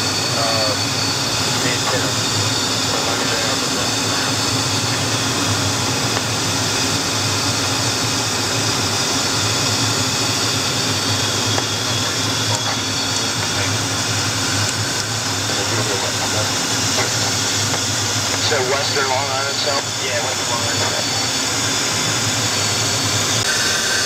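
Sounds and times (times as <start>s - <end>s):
jet cockpit noise in cruise: 0.0s - 24.0s.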